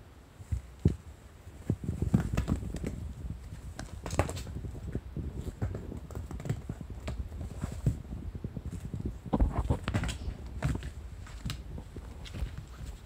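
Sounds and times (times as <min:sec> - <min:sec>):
kittens' paws thumping on mats: 0:00.4 - 0:13.0.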